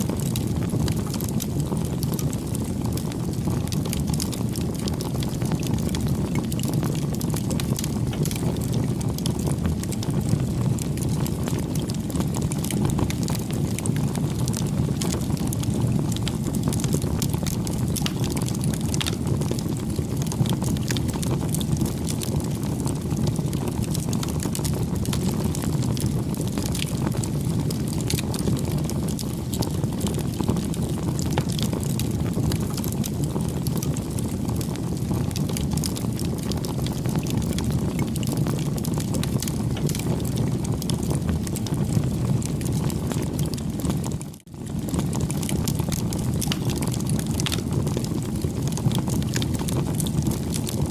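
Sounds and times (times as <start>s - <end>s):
fire flames rumbling: 0.0s - 50.9s
wood crackling and popping: 0.0s - 50.9s.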